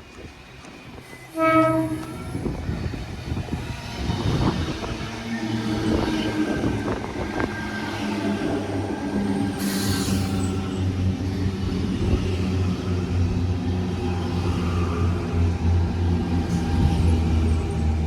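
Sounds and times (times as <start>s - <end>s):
electric train humming: 0.1s - 18.0s.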